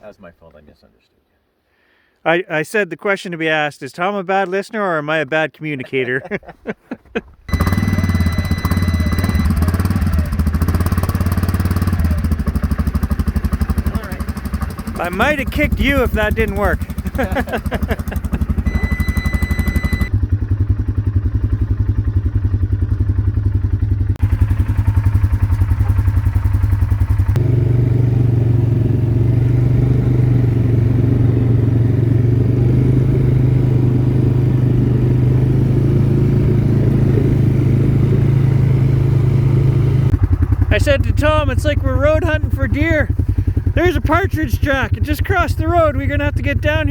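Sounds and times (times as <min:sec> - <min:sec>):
atv engine droning: 0:07.2 - 0:46.9
road noise: 0:07.3 - 0:46.9.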